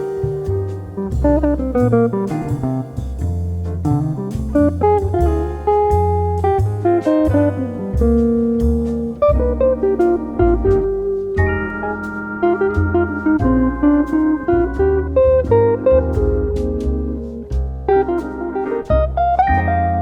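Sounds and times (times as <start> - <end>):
jazz music with guitar and bass: 0.0 - 20.0.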